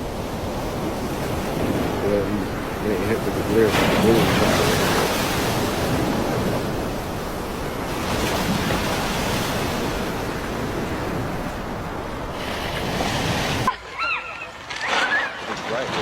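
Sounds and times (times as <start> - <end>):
waves and surf surging: 0.0 - 16.0.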